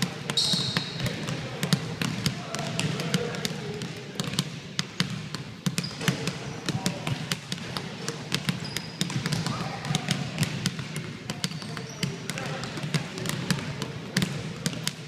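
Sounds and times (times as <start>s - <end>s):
basketballs dribbled on hardwood floor: 0.0s - 15.0s.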